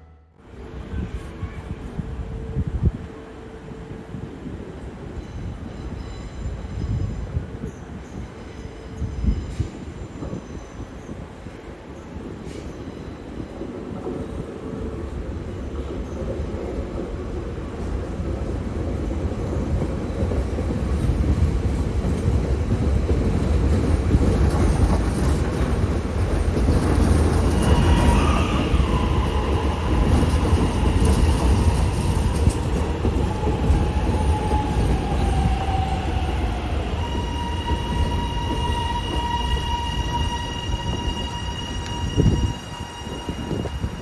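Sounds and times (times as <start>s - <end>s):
electric train rumbling on rails: 0.0s - 44.0s.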